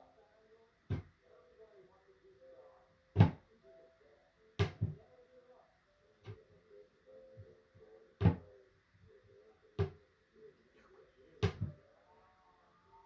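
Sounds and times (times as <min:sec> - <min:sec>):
faint low tones: 0:00.0 - 0:13.0.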